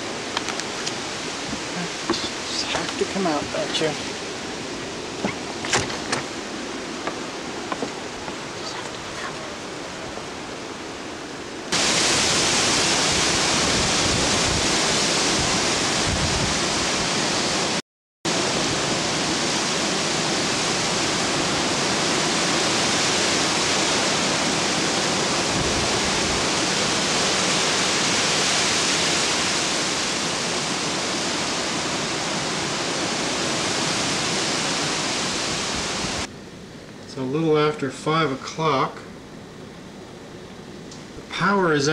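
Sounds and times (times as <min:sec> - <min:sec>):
wind buffeting microphone: 0:00.0 - 0:17.7, 0:18.4 - 0:36.3
storm wind rushing through trees: 0:00.0 - 0:41.9.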